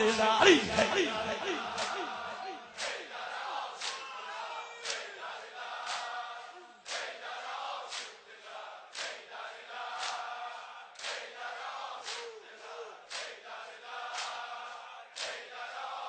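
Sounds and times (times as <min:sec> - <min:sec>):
crowd chanting in unison: 0:00.0 - 0:16.0.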